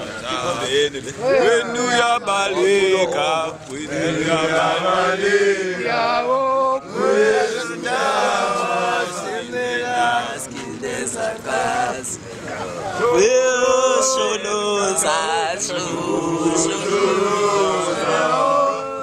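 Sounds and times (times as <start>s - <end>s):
men chanting: 0.3s - 19.0s.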